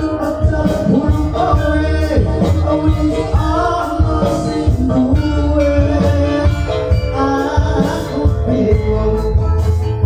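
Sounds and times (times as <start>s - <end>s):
gamelan music: 0.0s - 10.0s
low drum beat: 0.0s - 10.0s
person singing over loudspeakers: 0.0s - 10.0s.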